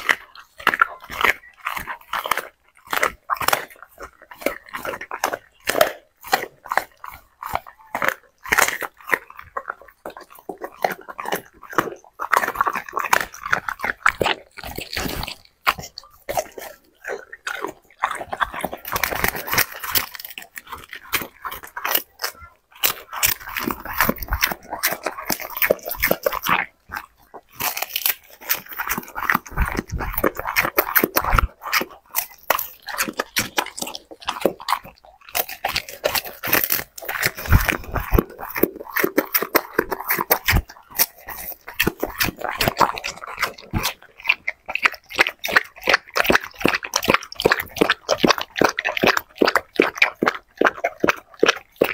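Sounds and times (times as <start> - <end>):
dog crunching lettuce: 0.0 - 51.9
dog licking and lapping: 0.0 - 51.9.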